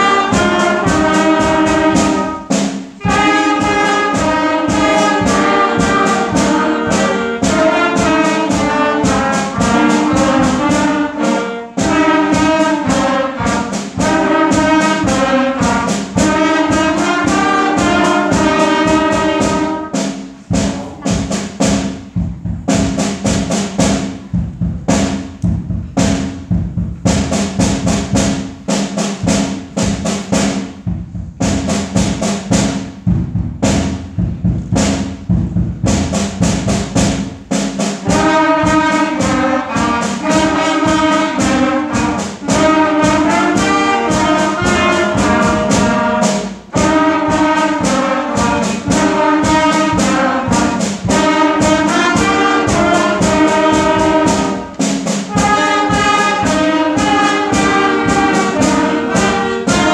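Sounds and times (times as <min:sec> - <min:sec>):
concert band playing a march: 0:00.0 - 0:59.9.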